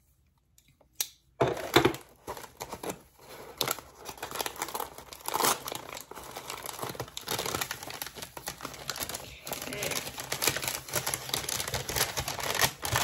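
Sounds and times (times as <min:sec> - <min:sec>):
paper crinkling and rustling: 0:01.6 - 0:13.0.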